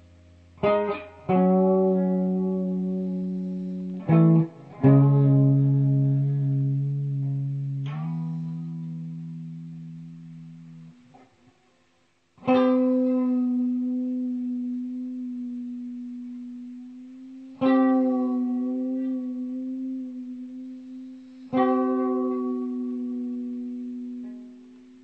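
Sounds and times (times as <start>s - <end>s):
electric guitar chord ringing: 0.0s - 11.2s, 12.4s - 25.0s.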